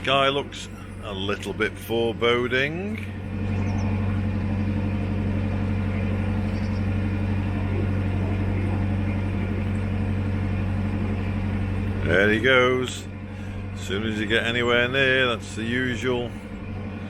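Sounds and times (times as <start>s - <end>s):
boat diesel engine droning: 0.0s - 17.0s.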